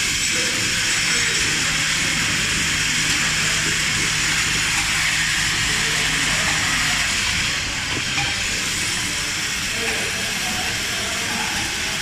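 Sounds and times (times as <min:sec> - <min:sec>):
packaging machine hissing: 0:00.0 - 0:12.0.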